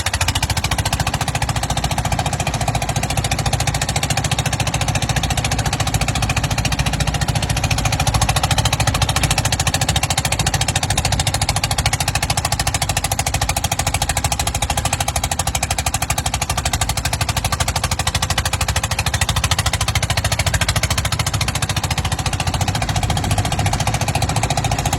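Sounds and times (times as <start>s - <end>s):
small dozer engine knocking: 0.0s - 24.9s.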